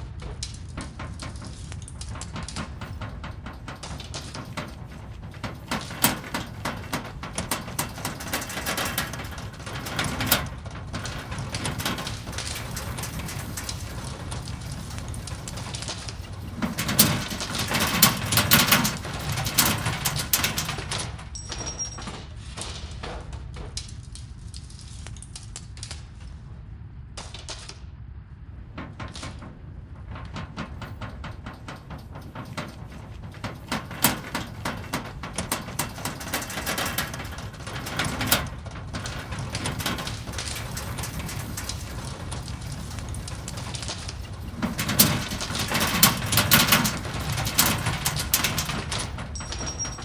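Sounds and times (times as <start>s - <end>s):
rattling and crackling: 0.4s - 22.2s, 28.5s - 50.0s
low earthquake rumble: 0.7s - 21.4s, 28.5s - 50.0s.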